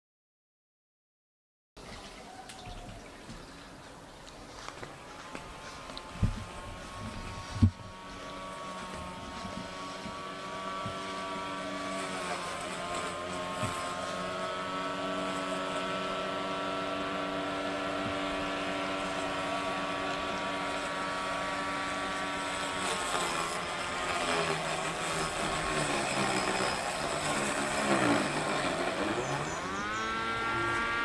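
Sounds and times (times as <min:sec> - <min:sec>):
engine running: 0:04.3 - 0:31.0.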